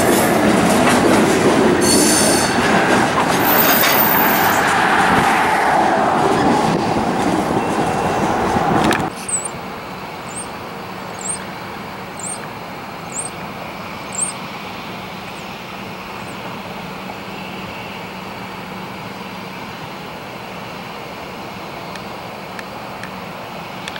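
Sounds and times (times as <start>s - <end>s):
distant locomotive rumble: 0.0s - 23.9s
street traffic noise: 0.0s - 23.9s.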